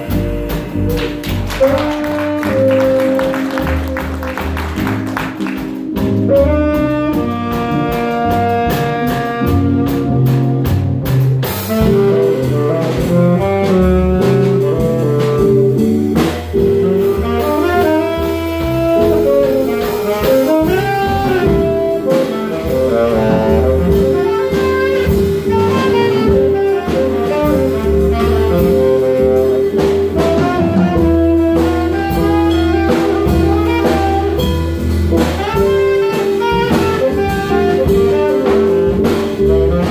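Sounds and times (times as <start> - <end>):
drum kit: 0.0 - 39.9
jazz guitar: 0.0 - 39.9
saxophone: 0.0 - 39.9
upright bass: 0.0 - 39.9.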